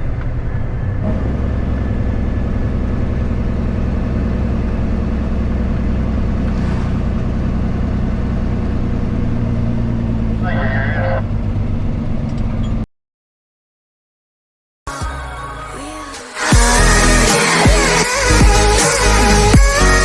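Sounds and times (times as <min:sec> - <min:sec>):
diesel truck engine running: 0:00.0 - 0:12.8, 0:16.4 - 0:20.0.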